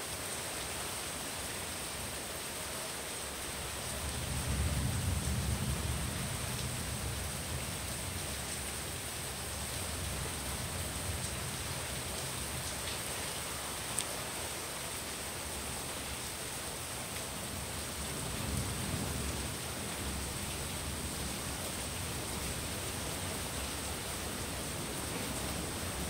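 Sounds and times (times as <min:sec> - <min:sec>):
rain hissing: 0:03.2 - 0:26.0.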